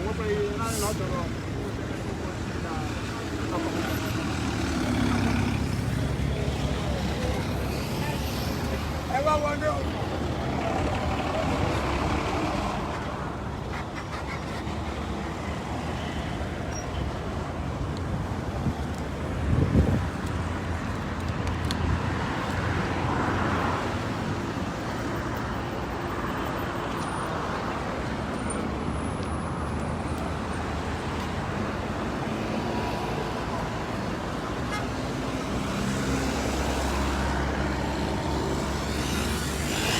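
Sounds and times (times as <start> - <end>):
road traffic: 0.0 - 39.9.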